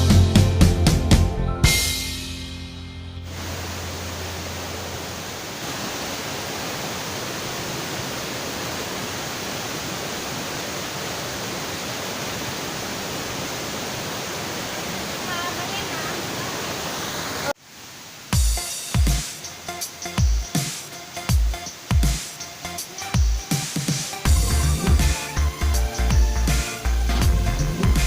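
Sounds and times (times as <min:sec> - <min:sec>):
waterfall rushing: 0:03.2 - 0:28.0.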